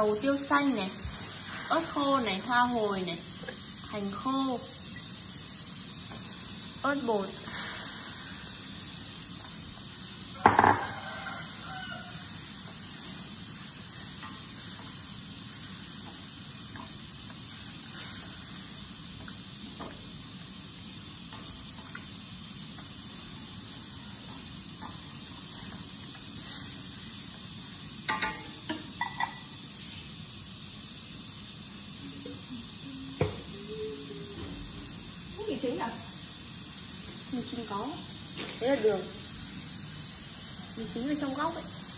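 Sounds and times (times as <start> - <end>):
chicken sizzling in a wok: 0.0 - 41.9.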